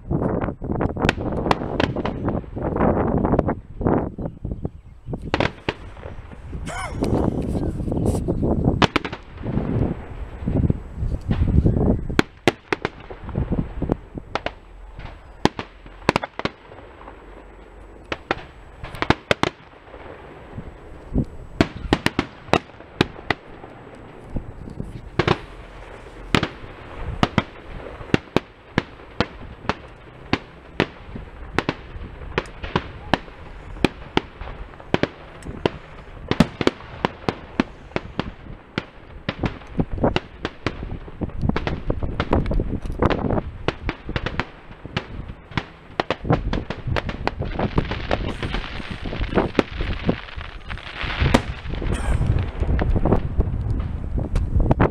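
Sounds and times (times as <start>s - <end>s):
distant fireworks bangs and crackles: 0.0s - 54.9s.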